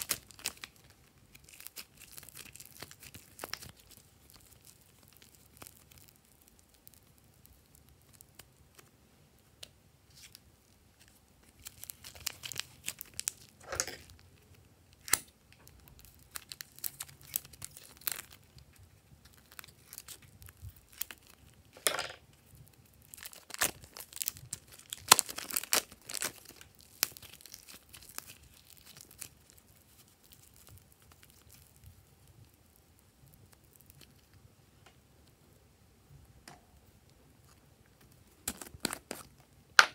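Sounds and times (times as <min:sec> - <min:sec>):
plastic bag crinkling: 0:00.0 - 0:08.9, 0:11.0 - 0:34.4, 0:38.0 - 0:39.4.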